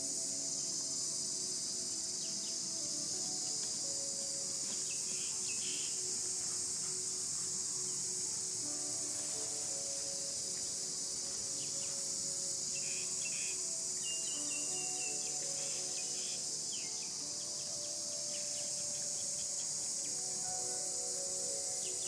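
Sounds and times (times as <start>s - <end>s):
insect chorus droning: 0.0s - 22.0s.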